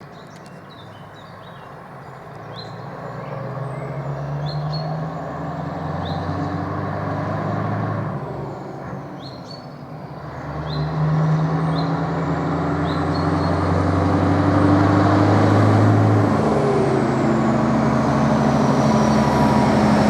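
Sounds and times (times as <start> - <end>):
diesel truck engine running: 1.8 - 20.0.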